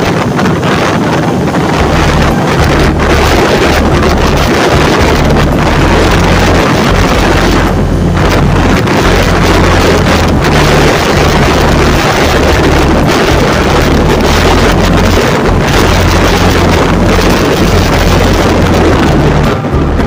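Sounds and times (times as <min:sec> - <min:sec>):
wind buffeting microphone: 0:00.0 - 0:20.0
motorcycle engine running: 0:00.7 - 0:20.0.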